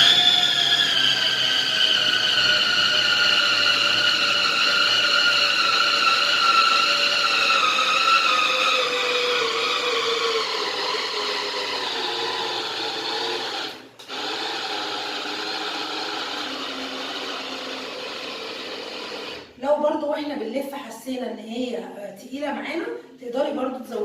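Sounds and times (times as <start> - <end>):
food processor motor grinding: 0.0 - 19.5.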